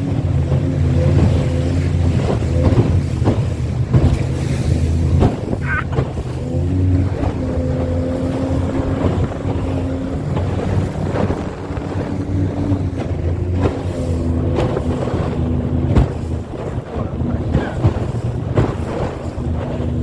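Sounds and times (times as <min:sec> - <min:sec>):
engine humming: 0:00.0 - 0:20.0
wind noise on microphone: 0:01.1 - 0:20.0.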